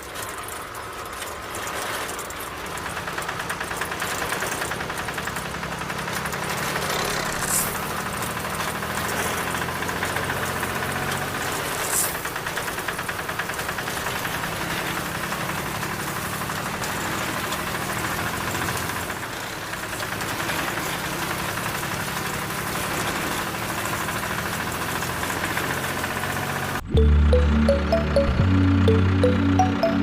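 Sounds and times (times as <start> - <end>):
engine idling with knocking chug: 0.0 - 30.0.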